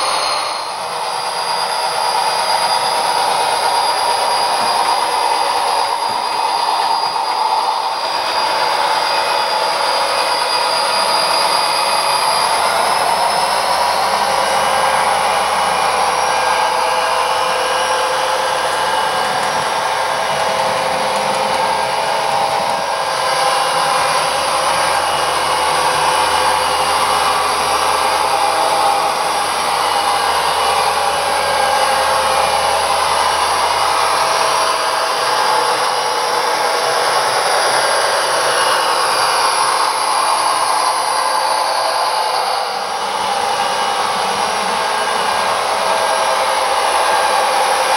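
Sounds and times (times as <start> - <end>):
simulated diesel engine sound: 0.0 - 47.9.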